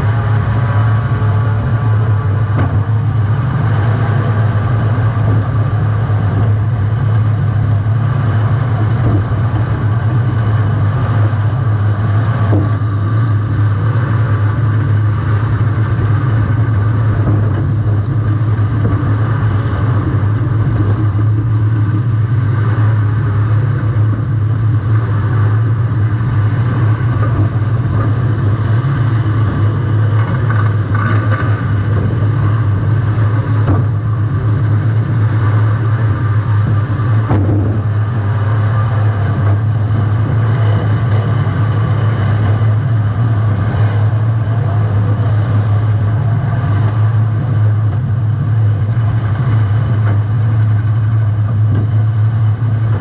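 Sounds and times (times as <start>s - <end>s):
car engine running loud: 0.0s - 53.0s.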